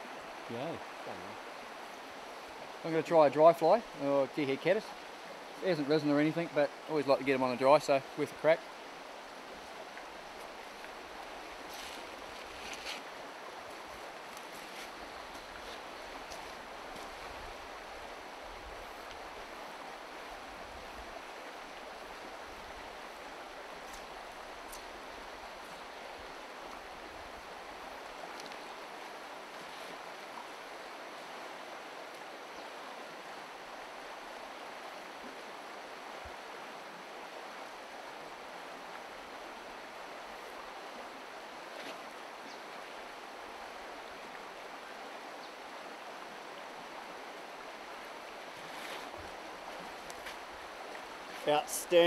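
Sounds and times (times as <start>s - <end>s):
river rushing over stones: 0.0s - 52.0s.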